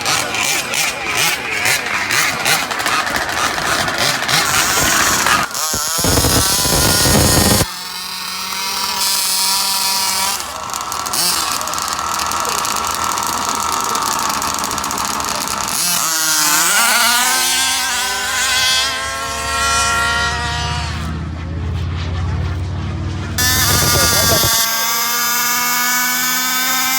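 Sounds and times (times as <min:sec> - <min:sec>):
two-stroke engines revving high: 0:00.0 - 0:26.9.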